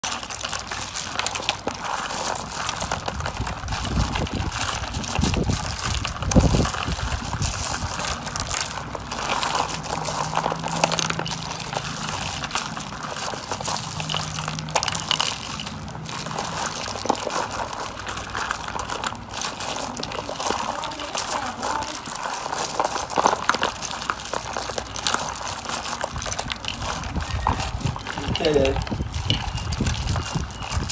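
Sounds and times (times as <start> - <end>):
foil crinkling: 0.0 - 30.9
plastic pieces clattering: 0.0 - 30.9.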